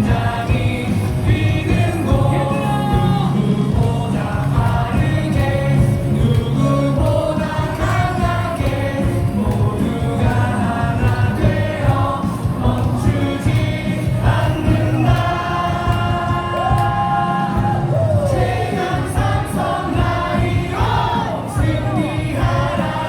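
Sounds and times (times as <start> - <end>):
crowd singing a cheer song: 0.0 - 23.0
loud amplified music: 0.0 - 23.0.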